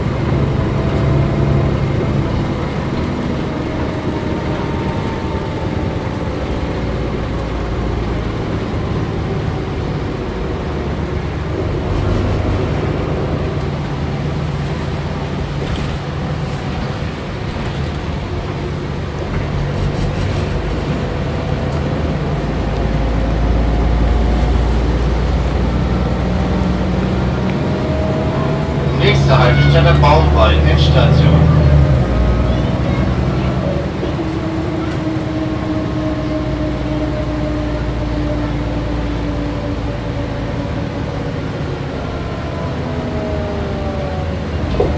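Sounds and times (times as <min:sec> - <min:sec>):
bus diesel engine rumble: 0:00.0 - 0:44.9.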